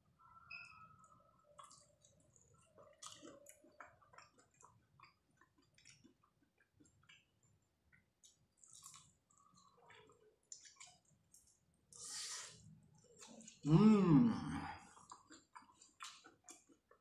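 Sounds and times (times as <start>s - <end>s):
person chewing crispy chicken: 1.0s - 13.7s, 14.8s - 17.0s.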